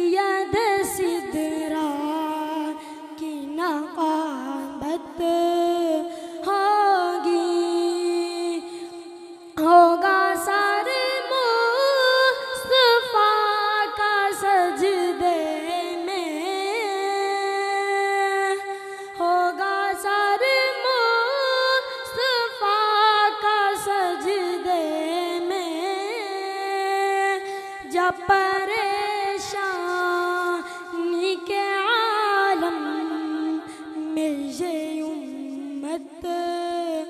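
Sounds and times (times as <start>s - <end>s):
boy singing into a microphone: 0.0s - 37.0s.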